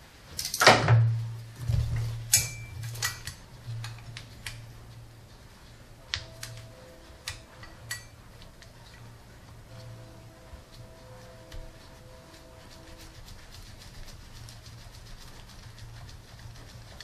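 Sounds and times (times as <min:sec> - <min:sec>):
steady low hum: 0:01.0 - 0:17.0.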